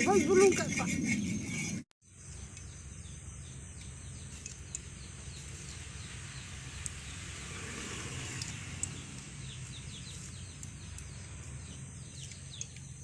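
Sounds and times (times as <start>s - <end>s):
rural outdoor background noise: 0.0s - 13.0s
small bird chirping: 0.0s - 13.0s.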